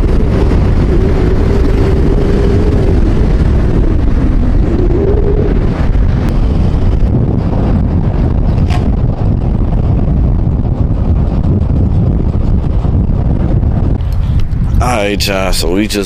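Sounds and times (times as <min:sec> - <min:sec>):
vehicle engine and road rumble: 0:00.0 - 0:16.0
wind buffeting microphone: 0:00.0 - 0:16.0.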